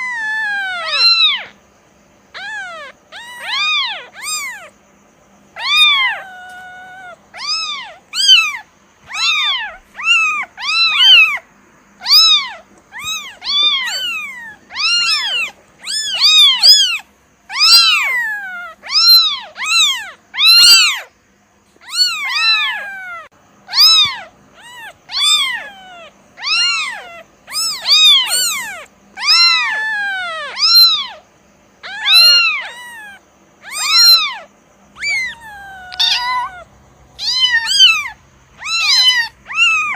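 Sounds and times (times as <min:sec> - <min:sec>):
kitten meowing: 0:00.0 - 0:01.6, 0:02.3 - 0:04.7, 0:05.5 - 0:21.1, 0:21.8 - 0:31.2, 0:31.8 - 0:39.9.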